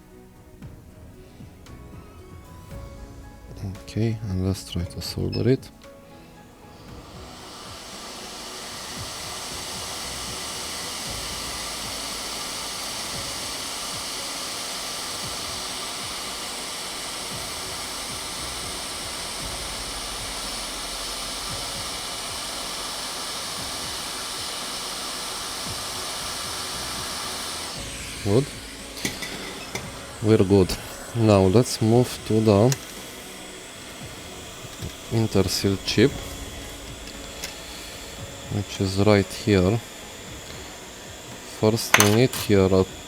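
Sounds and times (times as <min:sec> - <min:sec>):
hot air blower hiss: 0:00.0 - 0:43.0.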